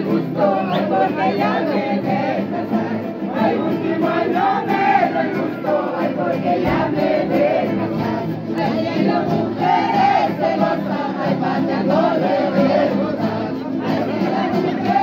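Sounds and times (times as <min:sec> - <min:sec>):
crowd singing: 0:00.0 - 0:15.0
guitars: 0:00.0 - 0:15.0.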